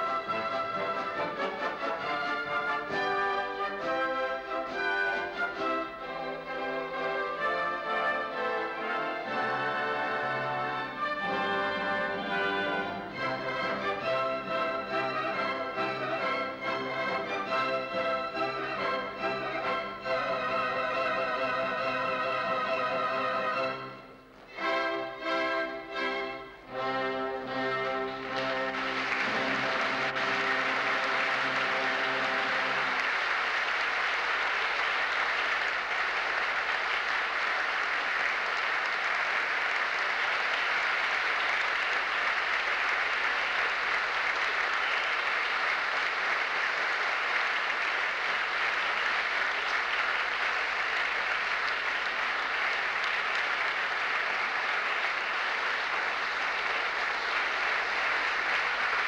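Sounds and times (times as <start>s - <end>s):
audience applauding: 0.0s - 23.4s, 26.8s - 59.0s.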